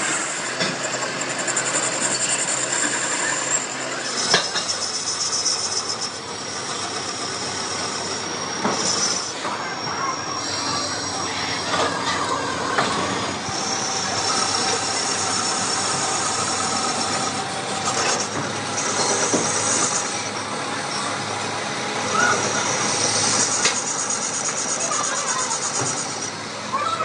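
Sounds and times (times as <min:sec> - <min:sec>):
lathe tool squealing on metal: 0:00.0 - 0:27.0.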